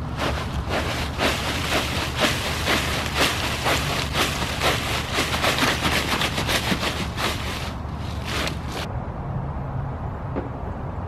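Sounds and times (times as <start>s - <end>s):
footsteps through fallen leaves: 0.0s - 8.9s
steady low rumble: 0.0s - 11.0s.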